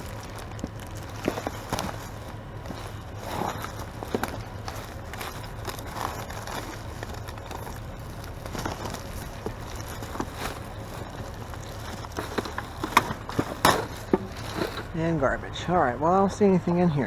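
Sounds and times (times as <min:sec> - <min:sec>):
low steady rumble: 0:00.0 - 0:17.0
trash bags rustling: 0:00.0 - 0:17.0.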